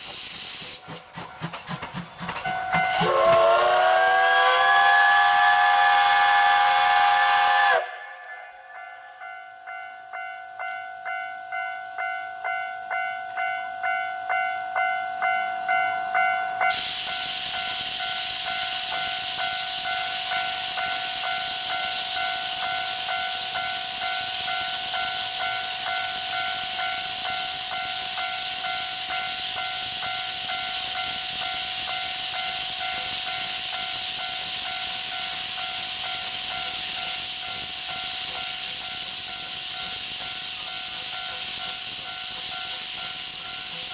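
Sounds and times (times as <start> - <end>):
loud hiss of escaping steam: 0.0 - 8.8, 16.6 - 43.9
steam locomotive chuffing: 0.0 - 8.8, 15.6 - 43.9.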